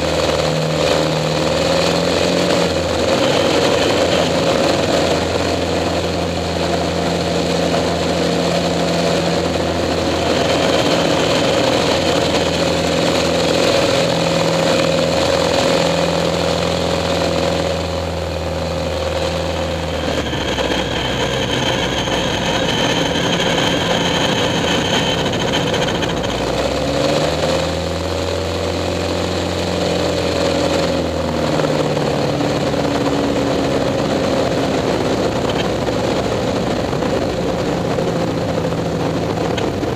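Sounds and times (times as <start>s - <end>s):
biplane engine and propeller: 0.0s - 39.9s
rush of wind: 0.0s - 39.9s.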